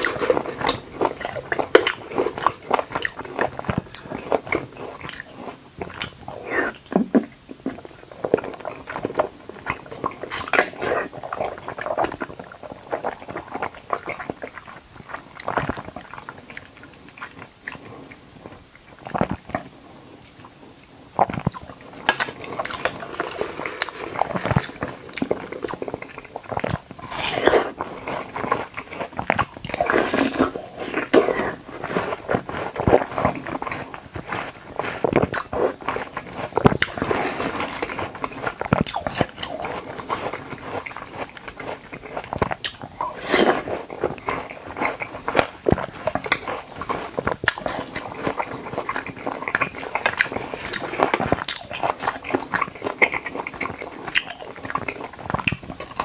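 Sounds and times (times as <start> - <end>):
person biting and chewing: 0.0 - 16.6, 21.2 - 56.0.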